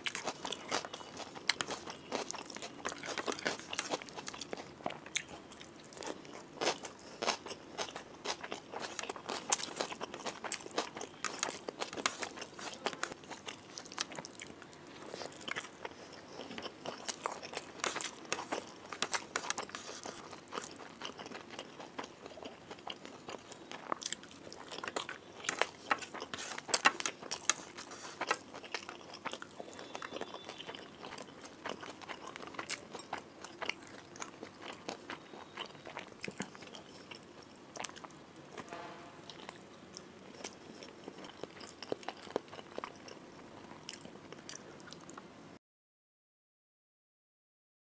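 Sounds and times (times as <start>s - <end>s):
chewing and crunchy bites: 0.0s - 38.7s, 39.3s - 45.2s.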